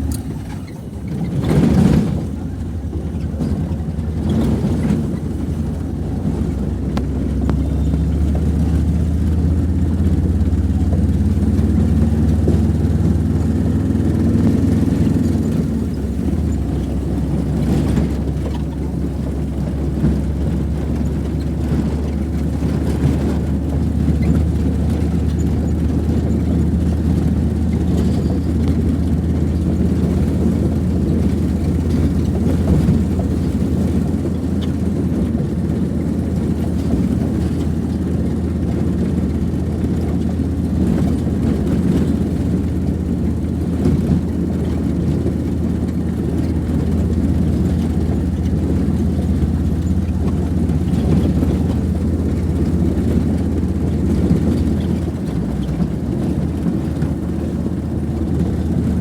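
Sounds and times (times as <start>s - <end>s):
vehicle engine low rumble: 0.0s - 59.0s.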